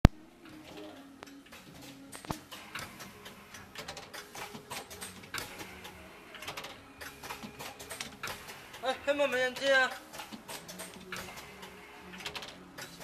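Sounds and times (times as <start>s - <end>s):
printing machine clicking and knocking: 1.5s - 13.0s.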